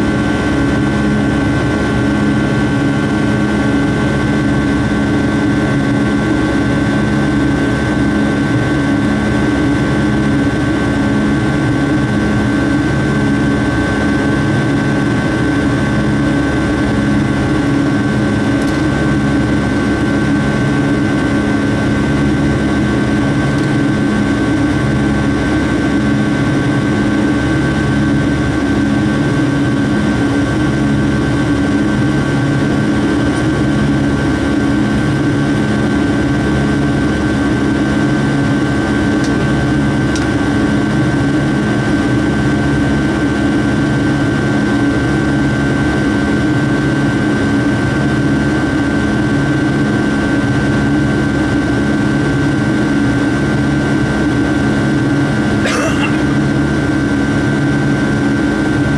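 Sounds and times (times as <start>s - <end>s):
high engine whine: 0.0s - 58.9s
jet engine rush in cabin: 0.0s - 58.9s
low wavering drone: 0.0s - 58.9s.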